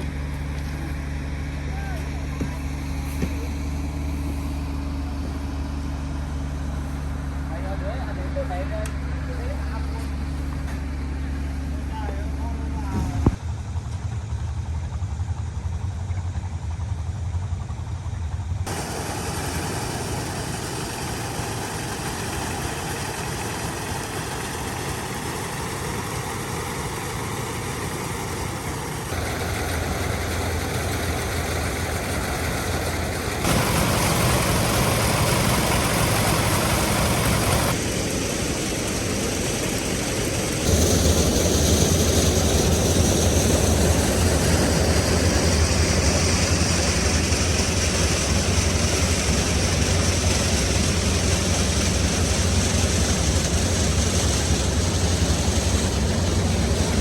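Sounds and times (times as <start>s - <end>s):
single-cylinder diesel engine running: 0.0s - 57.0s.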